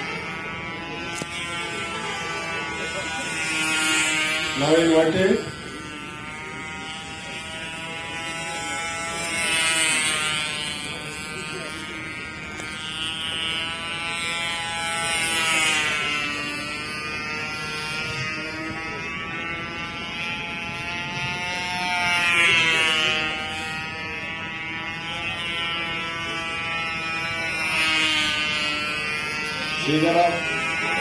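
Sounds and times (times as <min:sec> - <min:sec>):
model airplane engine buzzing: 0:00.0 - 0:31.0.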